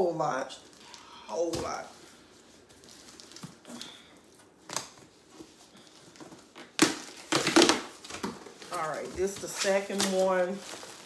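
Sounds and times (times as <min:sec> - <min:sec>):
plastic crinkling: 0:00.5 - 0:11.0
packaging rustling: 0:00.6 - 0:11.0.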